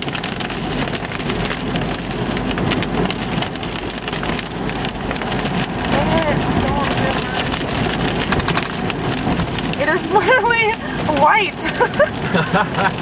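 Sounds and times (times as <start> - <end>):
rain and hail on a truck roof: 0.0 - 13.0.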